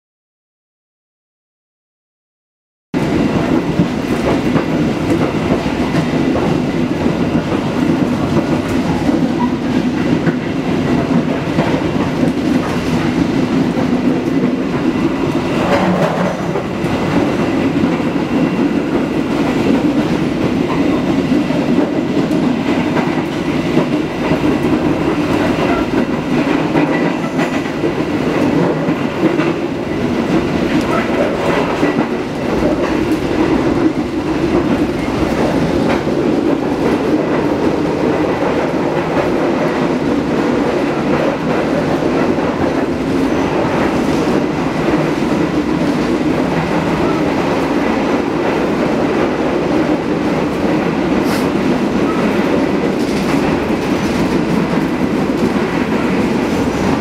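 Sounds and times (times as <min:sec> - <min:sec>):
train wheels rumbling on rails: 0:03.0 - 0:57.0.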